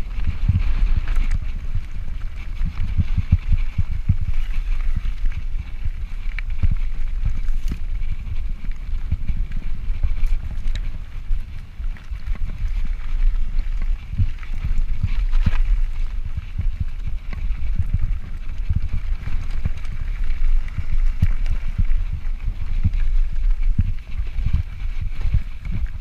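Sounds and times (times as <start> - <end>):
bike knocking and rattling: 0.0 - 26.0
bike tyres rumbling on dirt: 0.0 - 26.0.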